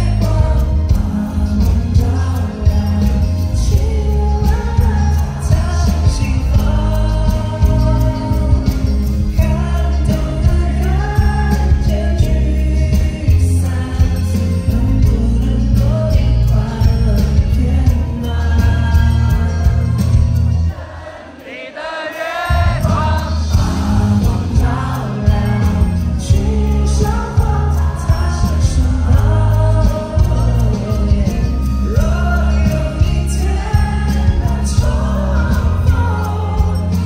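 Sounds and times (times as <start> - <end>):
live pop band with heavy bass: 0.0 - 37.0
person singing: 0.0 - 37.0.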